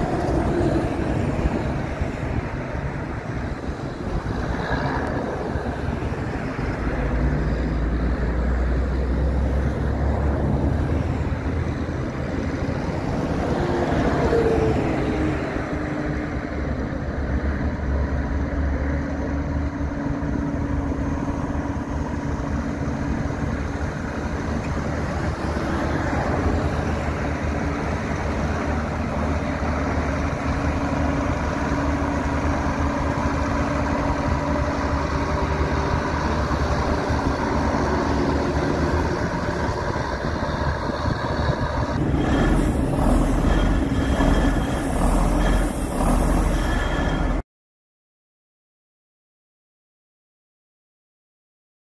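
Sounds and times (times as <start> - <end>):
tractor diesel engine running: 0.0 - 47.4.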